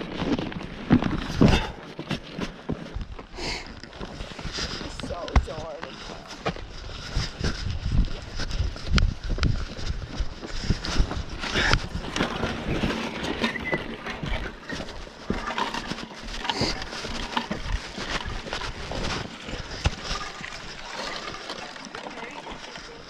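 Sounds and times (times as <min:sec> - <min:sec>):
horse hooves on dirt: 0:00.0 - 0:23.0.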